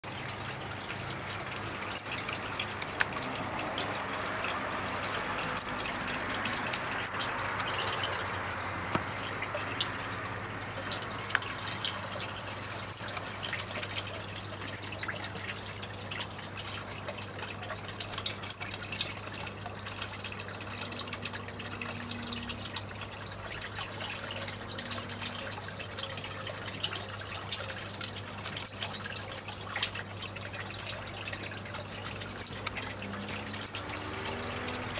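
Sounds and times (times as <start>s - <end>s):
small splashes: 0.0s - 34.9s
water trickling into a pond: 0.0s - 34.9s.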